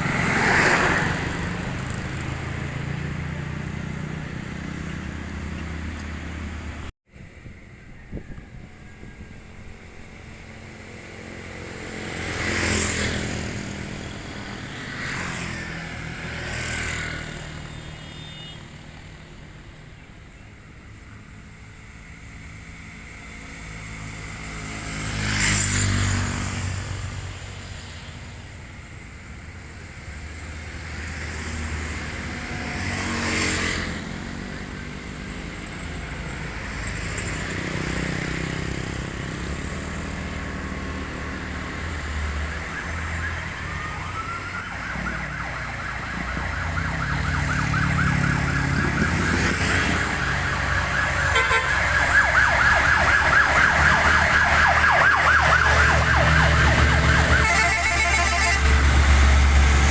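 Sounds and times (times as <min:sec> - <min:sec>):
road vehicles passing: 0:00.0 - 0:59.9.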